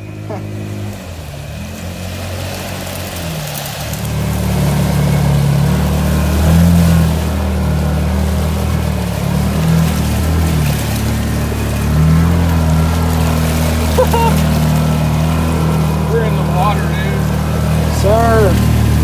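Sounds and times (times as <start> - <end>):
vehicle engine revving: 0.0 - 19.0
water churning: 0.0 - 19.0.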